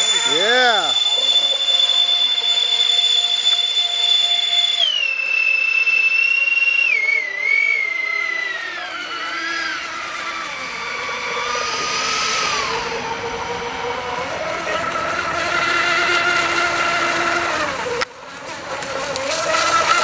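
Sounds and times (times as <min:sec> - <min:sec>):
electric motor high whine: 0:00.0 - 0:20.0.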